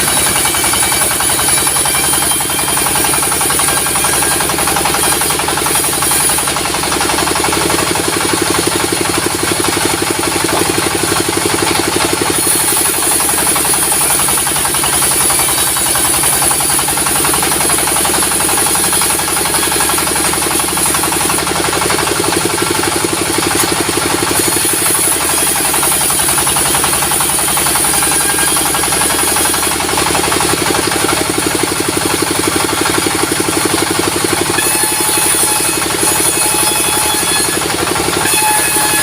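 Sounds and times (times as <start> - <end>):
sawmill machinery running: 0.0 - 39.0.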